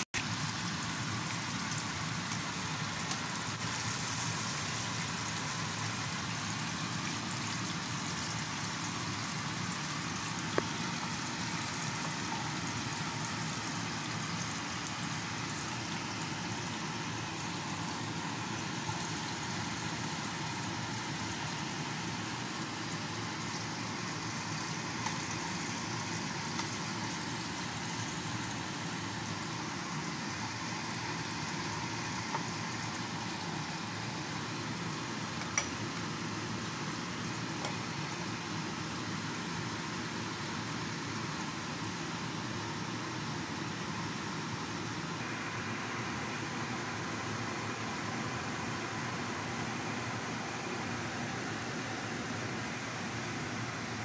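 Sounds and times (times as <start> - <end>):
oil sizzling in a frying pan: 0.0 - 54.0.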